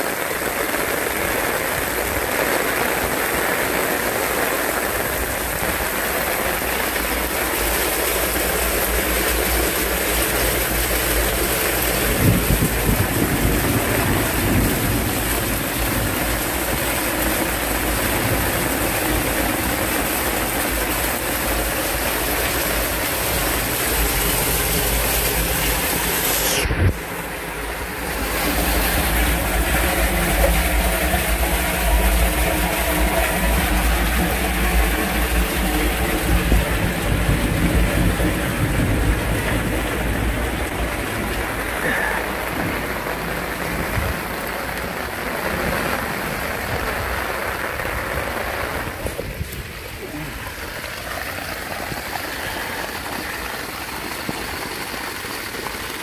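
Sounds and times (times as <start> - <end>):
rushing drainage water: 0.0 - 56.0
torrential rain: 0.0 - 56.0.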